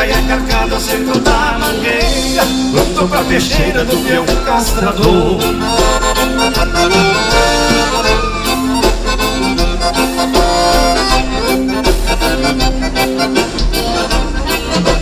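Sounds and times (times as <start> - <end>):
accordion dance music with band: 0.0 - 15.0.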